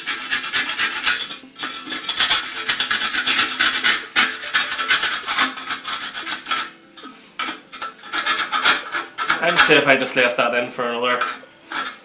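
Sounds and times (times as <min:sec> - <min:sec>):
trowel blade scraping: 0:00.0 - 0:12.0.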